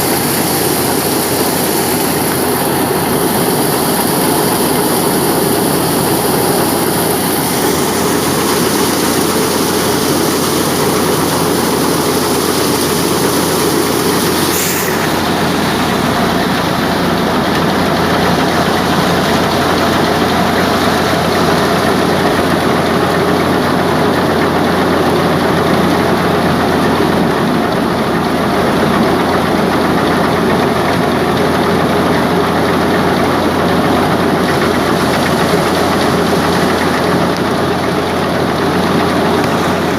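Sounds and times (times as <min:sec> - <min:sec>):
thresher mechanical clatter: 0:00.0 - 0:39.9
tractor engine drone: 0:00.0 - 0:39.9.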